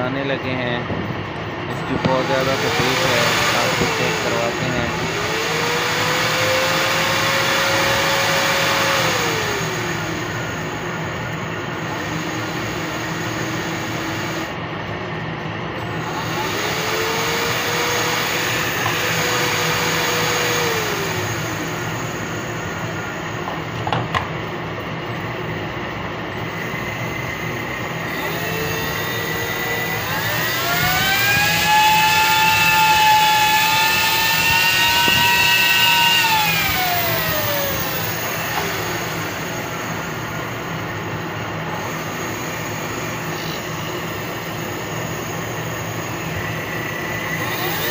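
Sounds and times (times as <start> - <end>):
cooling fan whirring with motor whine: 0.0 - 47.9.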